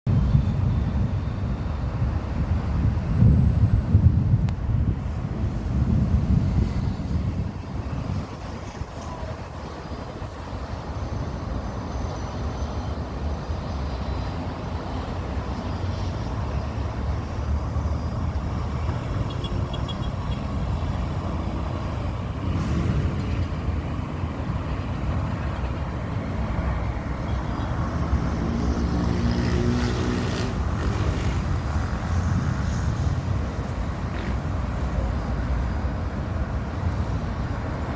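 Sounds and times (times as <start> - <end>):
city street traffic: 0.1 - 37.9
heavy vehicle engine passing: 5.1 - 37.9.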